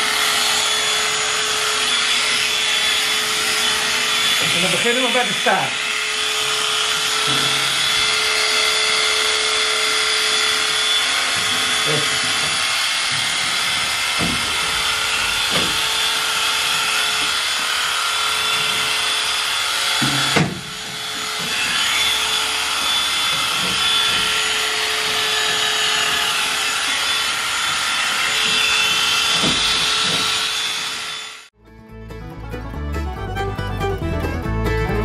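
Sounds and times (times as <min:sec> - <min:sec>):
electric clippers buzzing: 0:00.0 - 0:31.5.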